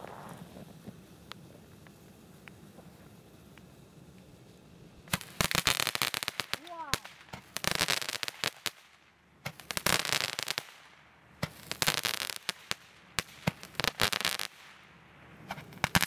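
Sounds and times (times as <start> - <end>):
firework crackling pops: 0.0 - 16.0.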